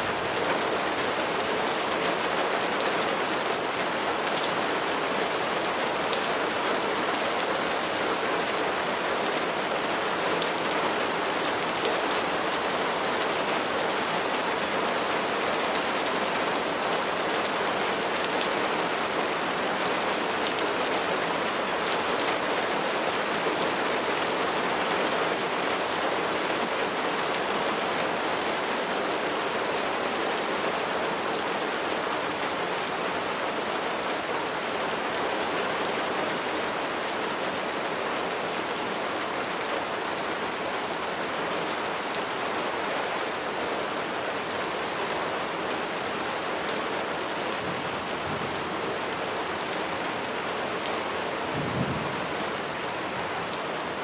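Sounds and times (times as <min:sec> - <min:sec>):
rain falling on surfaces: 0:00.0 - 0:54.0.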